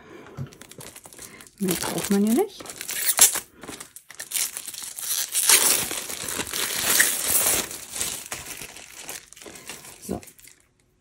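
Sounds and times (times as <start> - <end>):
cardboard packaging crinkling: 0.4 - 10.8.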